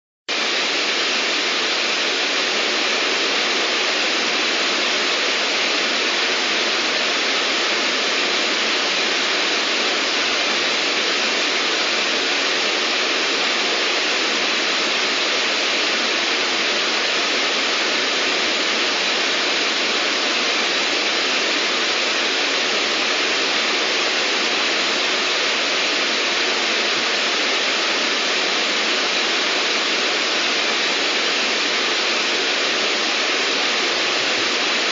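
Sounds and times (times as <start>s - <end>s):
white-noise hiss: 0.3s - 34.9s.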